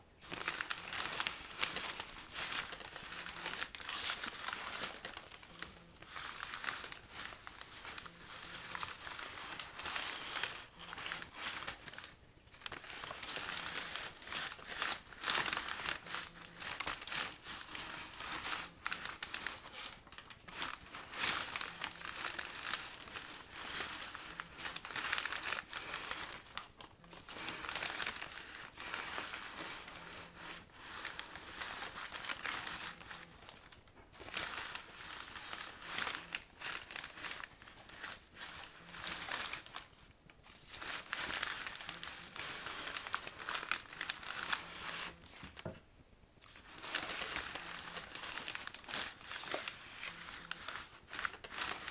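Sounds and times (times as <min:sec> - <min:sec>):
paper bags rustling and crinkling: 0:00.0 - 0:51.9.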